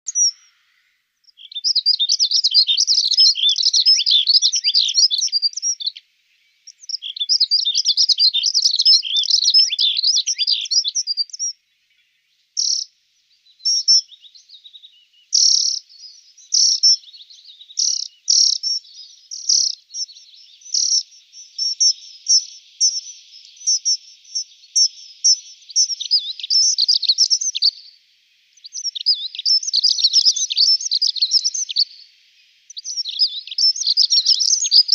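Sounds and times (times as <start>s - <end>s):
bird singing high warbling: 0.1s - 28.0s, 28.6s - 34.9s.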